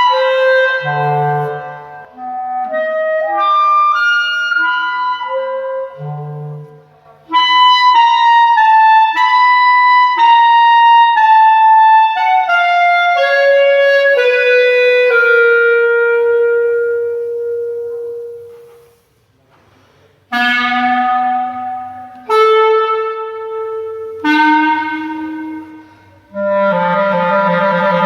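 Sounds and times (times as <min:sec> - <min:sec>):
solo clarinet: 0:00.0 - 0:19.1, 0:20.3 - 0:28.0.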